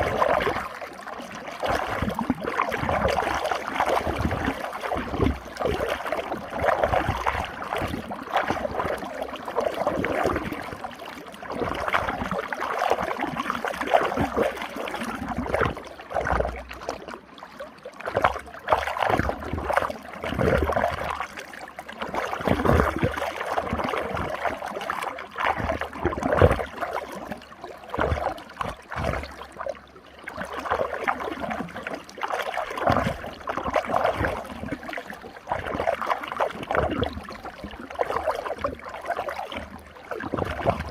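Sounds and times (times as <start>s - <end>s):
water swirling and gurgling: 0.0s - 40.9s.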